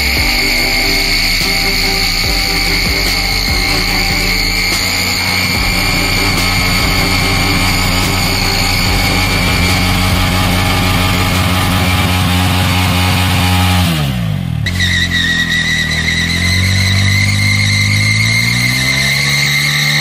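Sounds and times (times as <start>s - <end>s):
motorcycle engine revving: 0.0s - 20.0s
rear wheel spinning on wet road: 0.0s - 20.0s.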